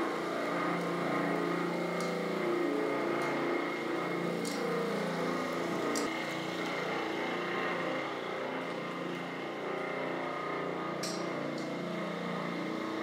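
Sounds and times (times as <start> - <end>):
floor grinder humming: 0.0 - 13.0.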